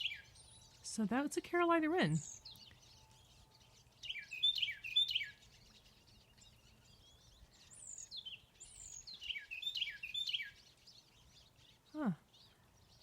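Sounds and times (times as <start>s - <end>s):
wren singing: 0.0s - 13.0s.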